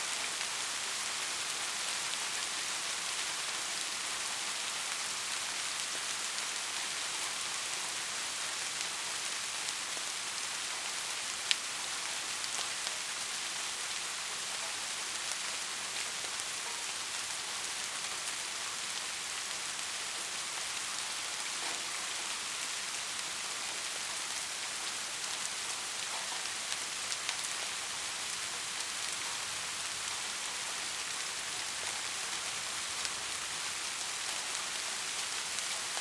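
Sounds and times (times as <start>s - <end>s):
steady rain: 0.0s - 36.0s.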